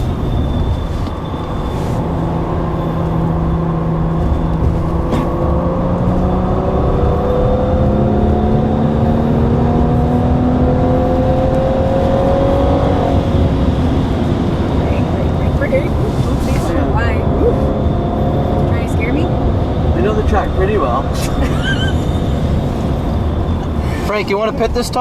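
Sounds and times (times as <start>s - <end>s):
car engine under full throttle: 0.0s - 25.0s
wind and road noise: 0.0s - 25.0s.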